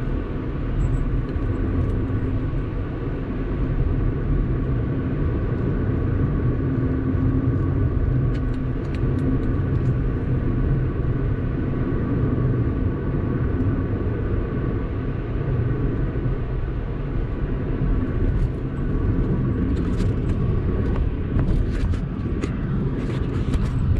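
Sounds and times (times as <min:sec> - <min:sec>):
car road and engine rumble: 0:00.0 - 0:23.9.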